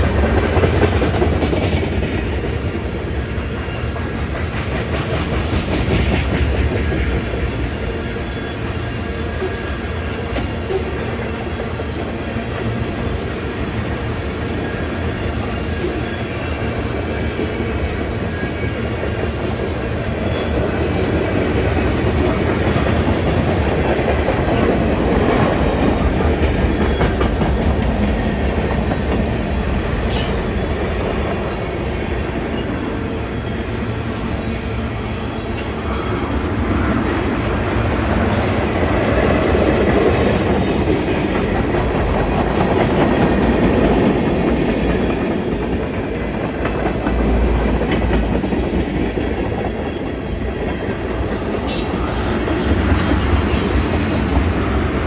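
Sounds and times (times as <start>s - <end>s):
freight train rolling past: 0.0s - 55.0s
steel wheels on rails: 0.0s - 55.0s.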